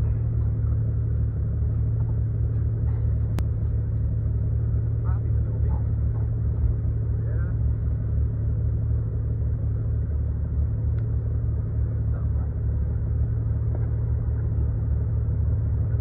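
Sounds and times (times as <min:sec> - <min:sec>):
off-road vehicle engine rumbling: 0:00.0 - 0:16.0.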